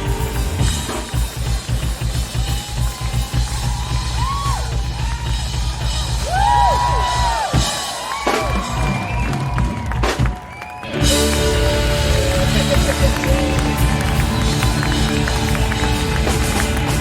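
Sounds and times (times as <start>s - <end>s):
crowd whooping: 0.0s - 17.0s
live band music: 0.0s - 17.0s.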